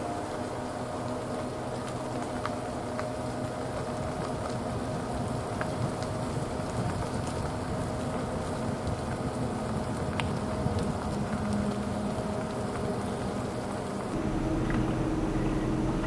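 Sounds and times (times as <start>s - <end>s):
faint constant hum: 0.0s - 16.0s
truck engine and tyre noise: 0.0s - 16.0s.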